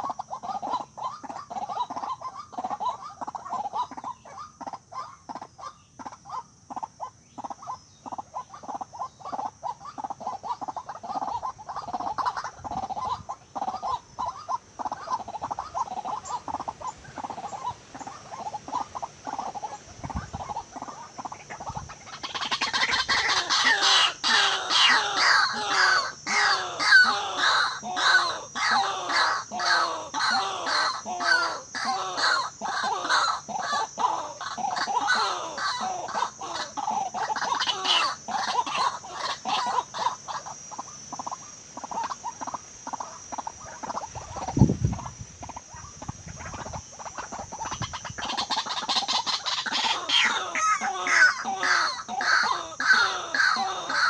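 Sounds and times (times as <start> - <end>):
waterhen harsh croaking calls: 0.0 - 54.0.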